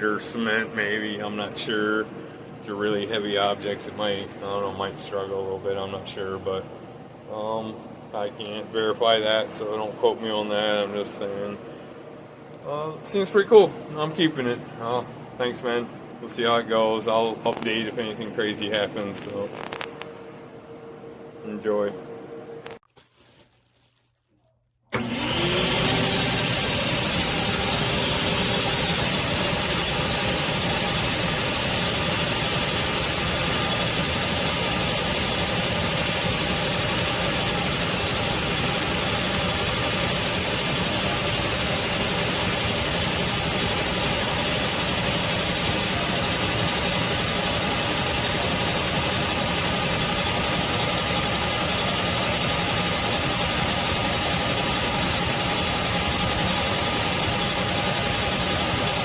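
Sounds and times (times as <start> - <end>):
shop vacuum running: 0.0 - 22.8, 24.9 - 59.0.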